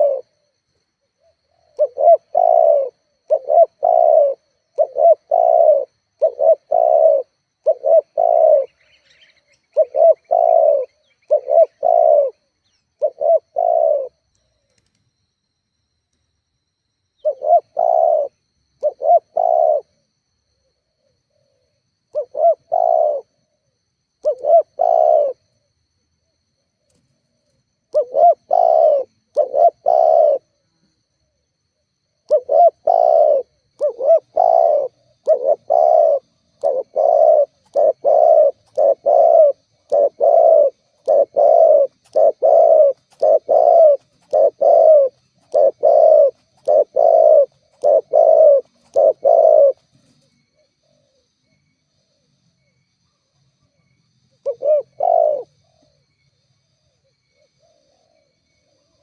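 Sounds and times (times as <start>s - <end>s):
dove cooing: 0.0s - 14.8s, 17.2s - 20.0s, 20.6s - 23.5s, 24.2s - 25.5s, 27.9s - 30.6s, 32.2s - 51.3s, 53.8s - 56.0s, 57.0s - 59.0s.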